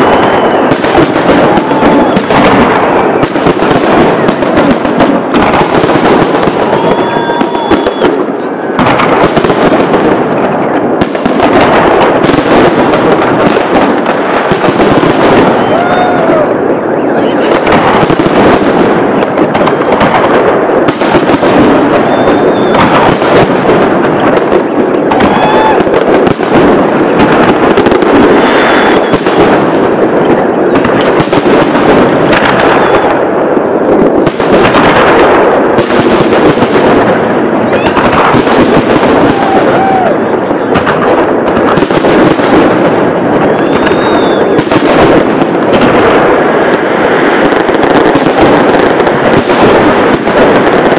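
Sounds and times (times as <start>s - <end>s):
fireworks bursting and crackling: 0.0s - 50.9s.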